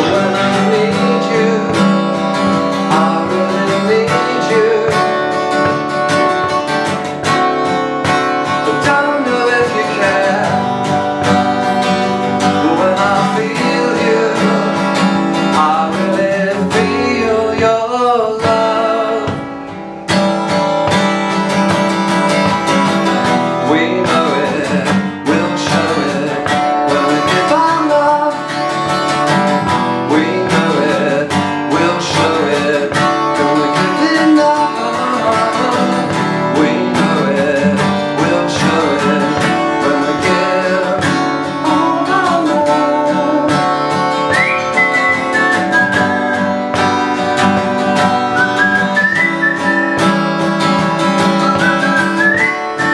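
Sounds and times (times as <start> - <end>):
man singing: 0.0 - 20.2, 20.8 - 52.9
strummed acoustic guitar: 0.0 - 52.9.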